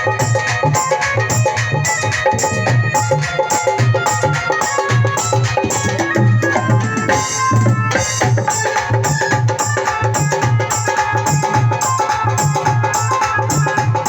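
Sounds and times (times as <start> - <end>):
dhol drumming: 0.0 - 14.0.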